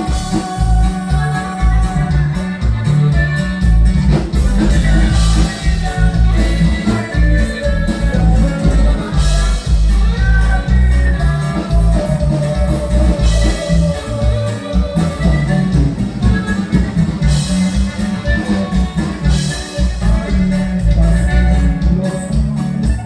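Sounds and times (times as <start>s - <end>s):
band music with pulsing bass: 0.0s - 23.0s
person singing: 0.0s - 23.0s.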